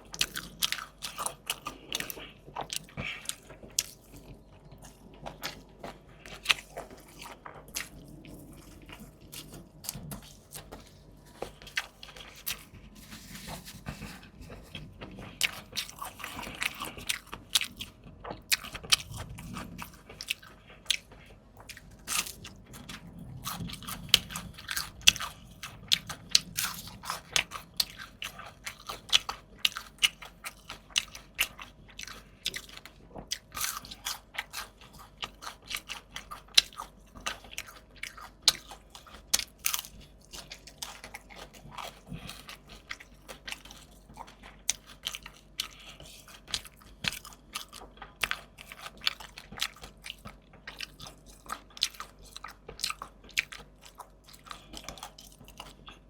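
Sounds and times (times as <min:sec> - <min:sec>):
crunching bites and chewing: 0:00.0 - 0:56.0.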